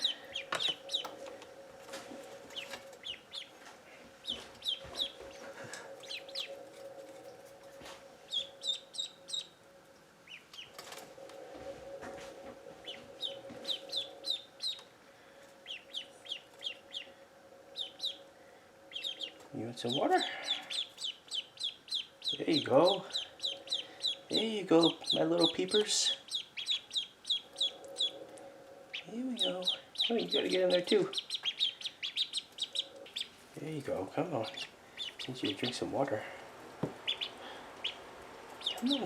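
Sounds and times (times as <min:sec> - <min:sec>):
ducklings peeping: 0:00.0 - 0:09.6, 0:10.2 - 0:39.0
steady low hum: 0:00.0 - 0:39.0.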